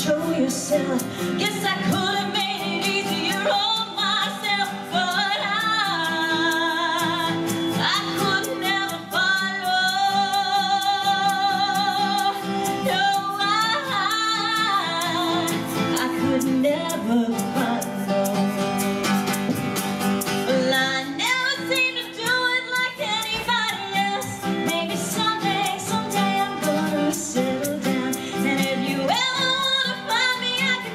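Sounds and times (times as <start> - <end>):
woman singing with vibrato: 0.0 - 18.8, 20.4 - 30.9.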